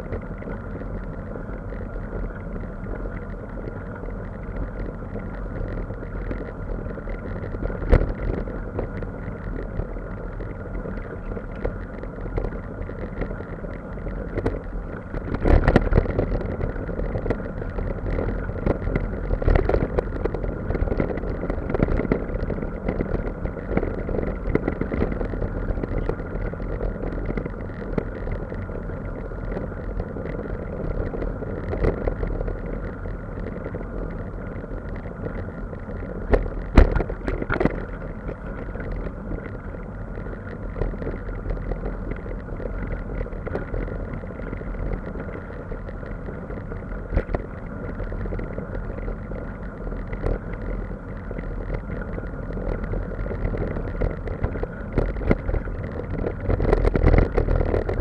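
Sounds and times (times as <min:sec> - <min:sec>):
vehicle engine rumble: 0:00.0 - 0:58.0.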